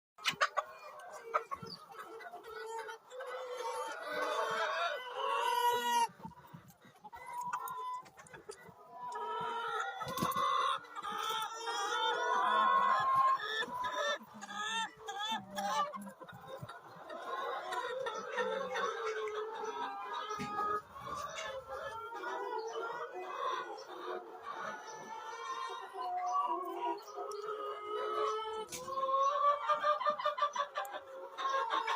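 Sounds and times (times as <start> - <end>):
chickens clucking: 0.2 - 31.9.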